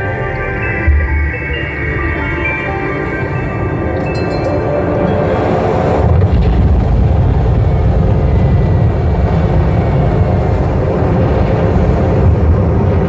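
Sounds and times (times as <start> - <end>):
aircraft engines droning over loudspeakers: 0.0 - 13.0.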